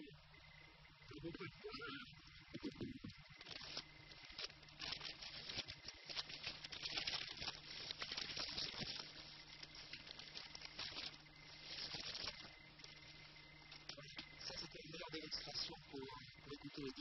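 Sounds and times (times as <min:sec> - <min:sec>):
crackling hiss with clicks: 0:00.0 - 0:17.0
low steady hum: 0:00.0 - 0:17.0.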